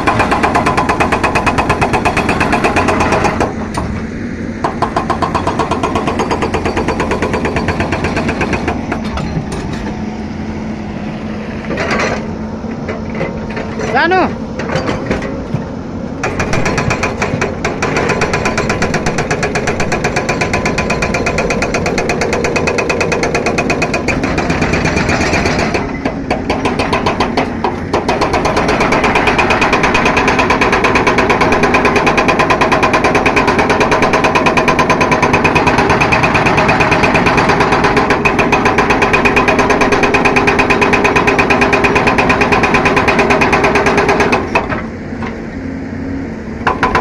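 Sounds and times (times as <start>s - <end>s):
hydraulic breaker hammering rock: 0.0s - 4.0s, 4.6s - 10.0s, 16.2s - 45.4s, 46.6s - 47.0s.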